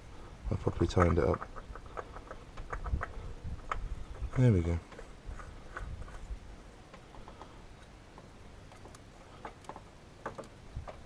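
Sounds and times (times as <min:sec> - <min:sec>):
oil filter clicks and scrapes: 0:00.6 - 0:11.0.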